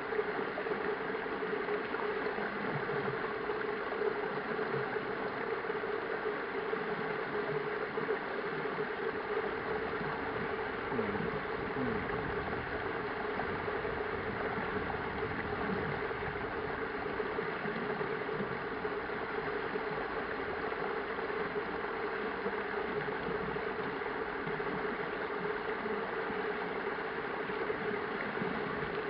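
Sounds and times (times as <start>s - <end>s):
constant low hum: 0.0s - 29.0s.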